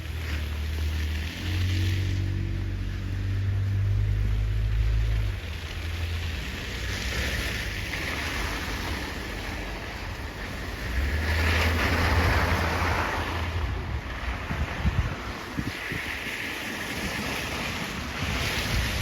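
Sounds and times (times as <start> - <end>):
wind gusting: 1.6 - 19.0
wind buffeting microphone: 2.0 - 19.0.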